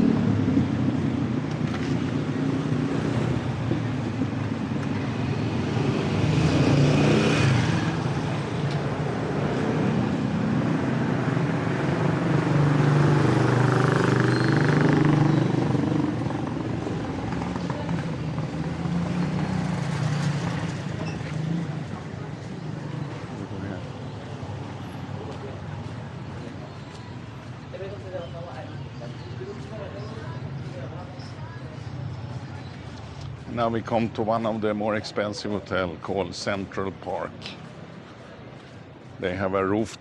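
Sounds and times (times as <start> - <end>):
motor vehicles passing: 0.0 - 40.0.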